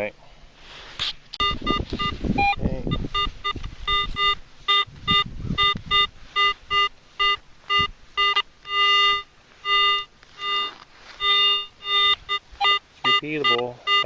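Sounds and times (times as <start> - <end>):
metal detector buzzy beeps: 1.4 - 14.0
metal detector held tones: 1.4 - 14.0.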